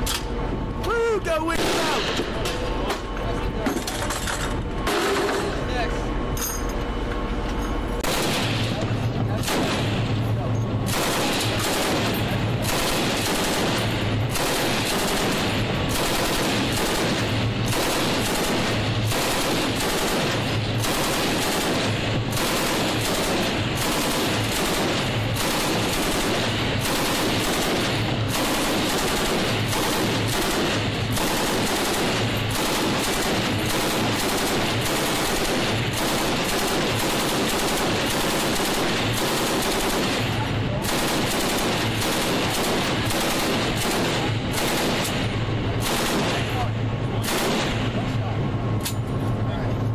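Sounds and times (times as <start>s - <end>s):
machine guns firing bursts: 1.3s - 2.2s, 8.0s - 10.2s, 10.8s - 48.0s.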